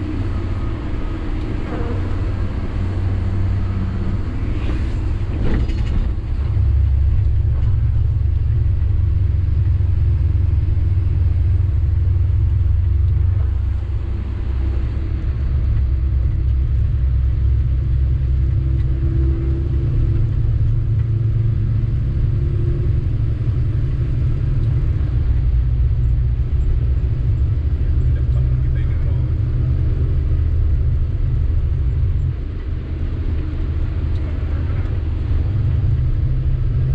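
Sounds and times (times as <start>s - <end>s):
road noise: 0.0s - 36.9s
truck diesel engine rumble: 0.0s - 36.9s.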